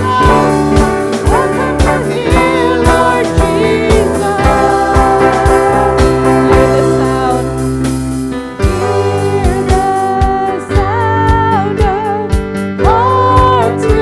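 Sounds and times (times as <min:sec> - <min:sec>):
steady drum beat: 0:00.0 - 0:14.0
sustained keyboard chords: 0:00.0 - 0:14.0.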